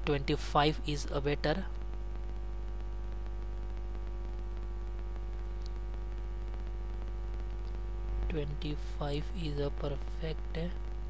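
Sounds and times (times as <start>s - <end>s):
electrical hum with faint buzz: 0.0s - 11.0s.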